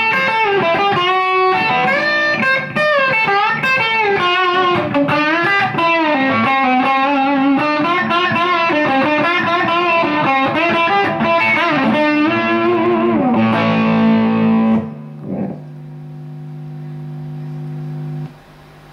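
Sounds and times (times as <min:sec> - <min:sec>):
electric guitar lead line: 0:00.0 - 0:18.9.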